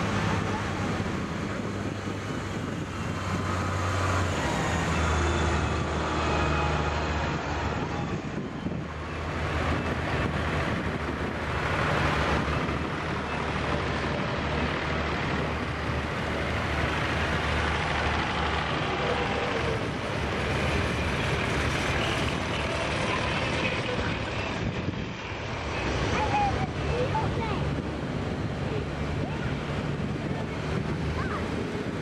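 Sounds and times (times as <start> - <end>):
tractor engines droning past: 0.0 - 32.0.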